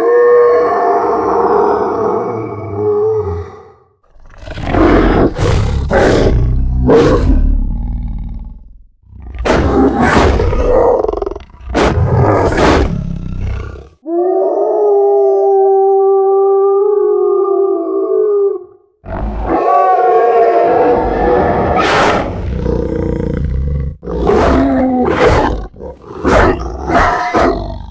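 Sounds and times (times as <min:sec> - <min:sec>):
creature growl: 0:00.0 - 0:15.6, 0:19.0 - 0:27.9
snarling monster roars: 0:00.0 - 0:18.4, 0:19.0 - 0:27.9.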